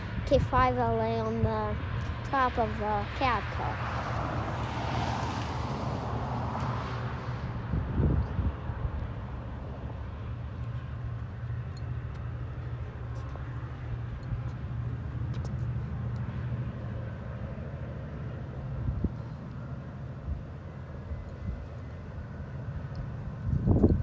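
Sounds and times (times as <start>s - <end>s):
passenger train rumbling: 0.0s - 24.0s.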